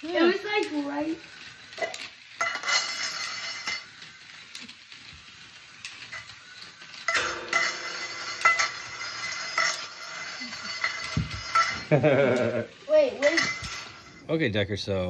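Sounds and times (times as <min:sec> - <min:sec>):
toy car motor whining: 0:00.0 - 0:07.1, 0:09.2 - 0:14.3
toy car clicks: 0:00.0 - 0:14.2.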